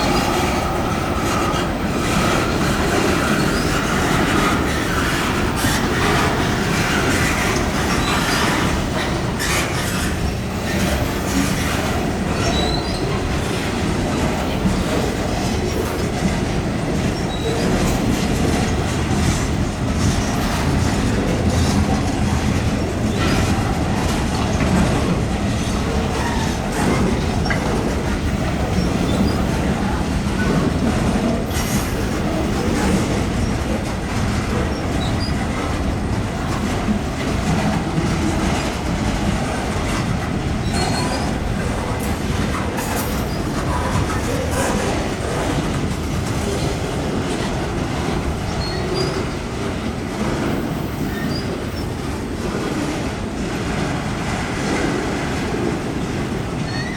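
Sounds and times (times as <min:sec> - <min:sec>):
steel wheels rumbling on rail: 0:00.0 - 0:56.9.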